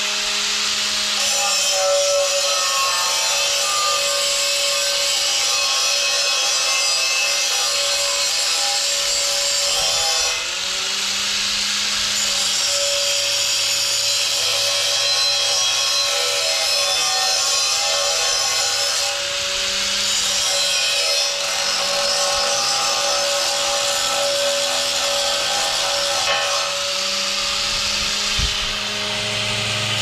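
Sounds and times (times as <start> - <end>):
angle grinder grinding metal: 0.0 - 30.0.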